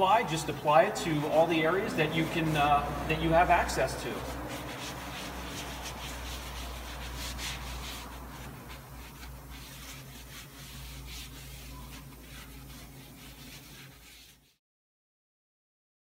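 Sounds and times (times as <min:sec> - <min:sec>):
foam pad rubbing on plastic: 0:00.0 - 0:14.6.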